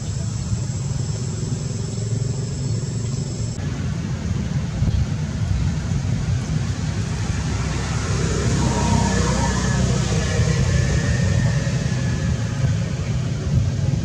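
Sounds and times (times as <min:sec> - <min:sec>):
low rumble with hiss: 0:00.0 - 0:14.0.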